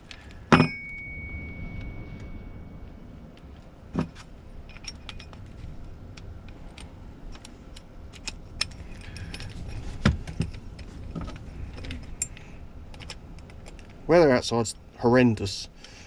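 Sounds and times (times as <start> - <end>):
tools and parts clinking: 0.0 - 14.0.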